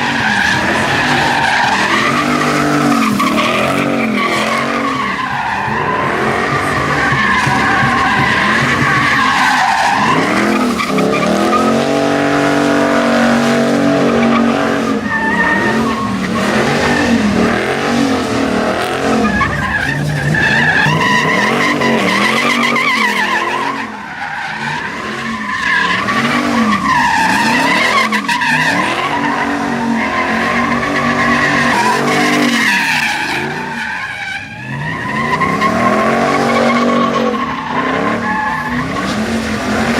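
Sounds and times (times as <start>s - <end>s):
truck engines revving: 0.0s - 39.9s
tyres squealing and skidding: 0.0s - 39.9s.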